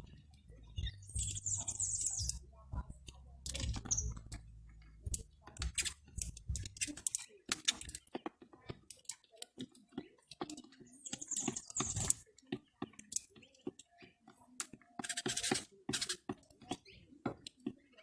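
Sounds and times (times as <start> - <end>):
sharp clicks and taps: 2.0 - 17.8.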